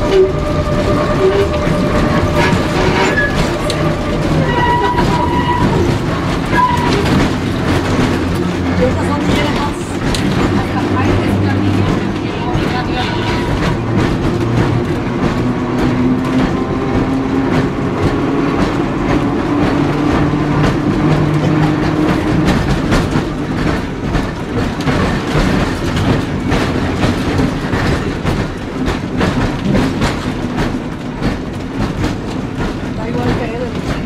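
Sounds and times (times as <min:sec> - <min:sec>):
streetcar wheels clacking on rails: 0:00.0 - 0:34.0
wooden car body rattling: 0:00.0 - 0:34.0.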